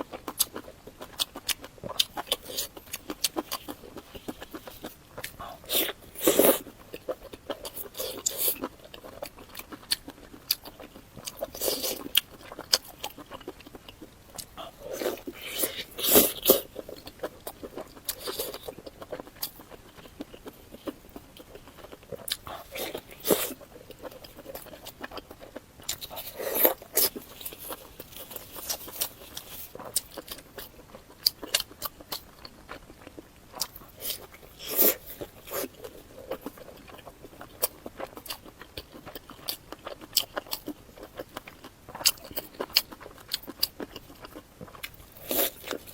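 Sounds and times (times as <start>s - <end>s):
person chewing and smacking: 0.0s - 45.9s.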